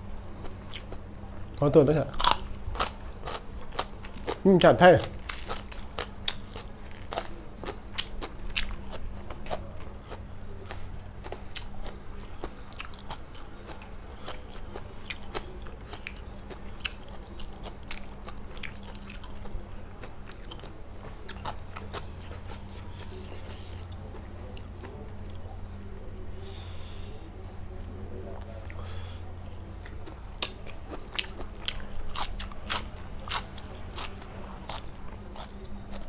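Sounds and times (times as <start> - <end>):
steady low hum: 0.0 - 36.0
person chewing crunchy food: 0.1 - 1.0, 2.1 - 25.4, 29.8 - 36.0.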